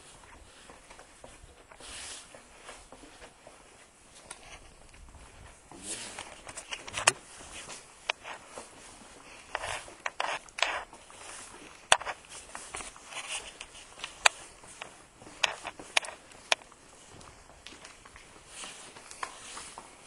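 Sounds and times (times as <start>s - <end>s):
footsteps scuffing on floor: 0.0s - 20.0s.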